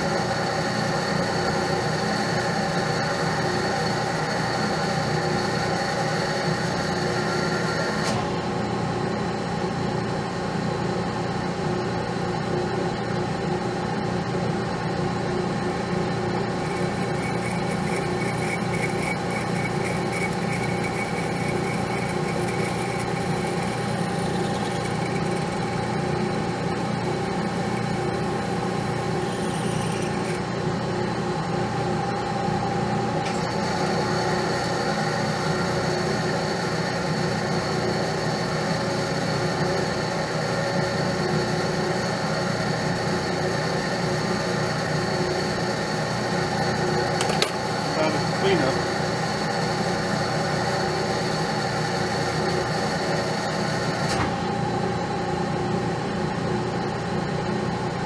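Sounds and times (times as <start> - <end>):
metal lathe running: 0.0 - 8.6, 13.0 - 56.2.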